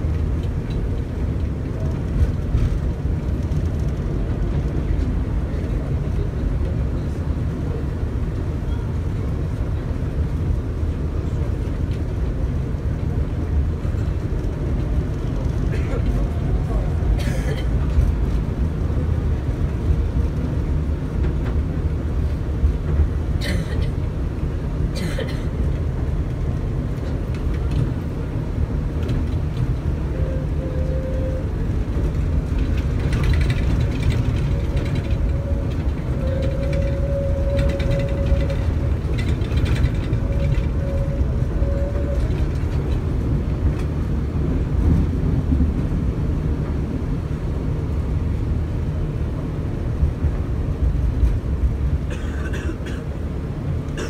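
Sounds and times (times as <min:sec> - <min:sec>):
tram rumbling on rails: 0:00.0 - 0:54.0.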